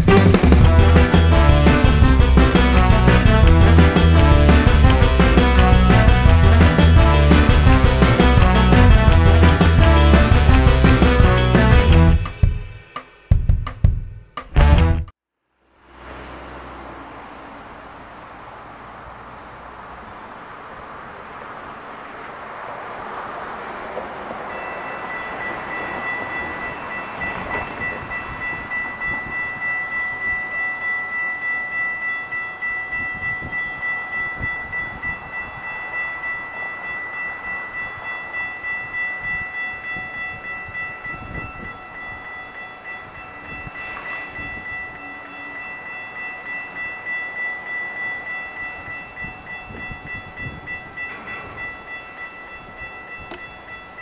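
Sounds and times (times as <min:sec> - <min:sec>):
railroad crossing bell ringing: 0:00.0 - 0:13.1, 0:19.2 - 0:54.0.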